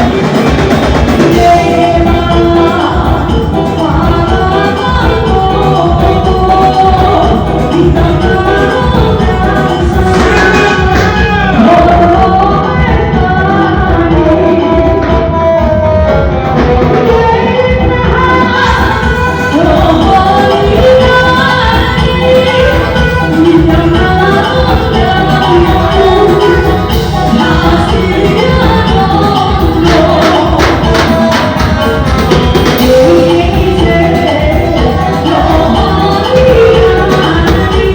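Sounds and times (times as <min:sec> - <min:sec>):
live band music with singing: 0:00.0 - 0:37.9.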